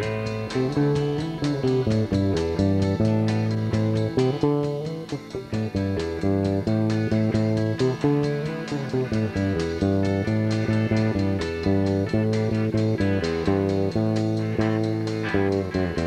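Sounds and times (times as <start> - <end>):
bass guitar: 0.0 - 16.0
electric guitar: 0.0 - 16.0
steady drum beat: 0.0 - 16.0.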